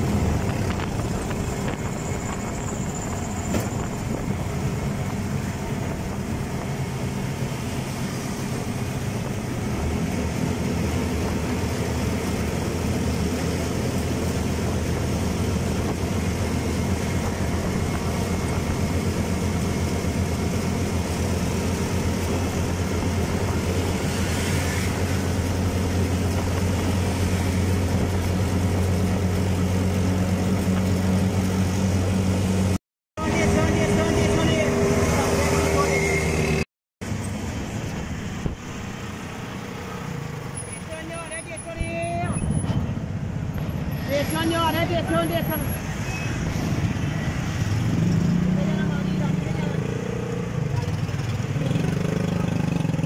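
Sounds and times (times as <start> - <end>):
road and wind noise: 0.0 - 53.0.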